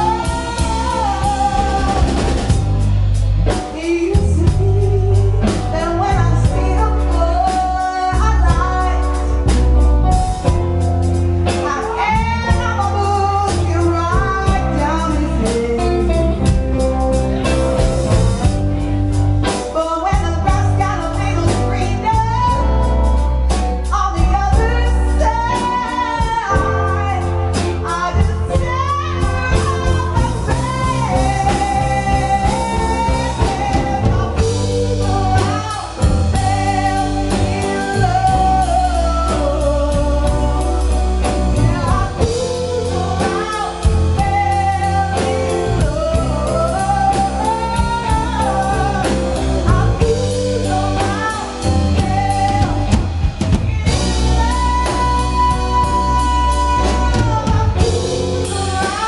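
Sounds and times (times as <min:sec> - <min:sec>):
drum kit: 0:00.0 - 0:59.0
electric bass: 0:00.0 - 0:59.0
guitar: 0:00.0 - 0:59.0
woman singing: 0:00.0 - 0:59.0.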